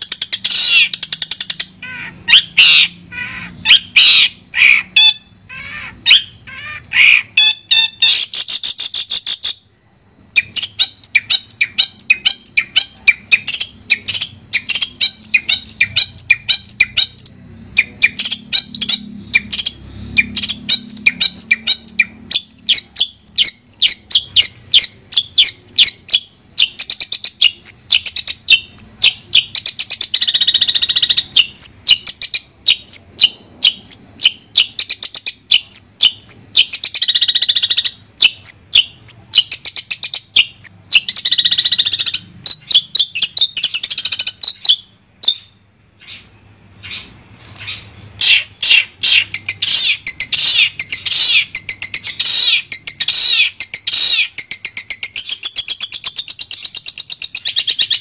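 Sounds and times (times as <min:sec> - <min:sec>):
bird chirping and trilling: 0:00.0 - 0:58.0.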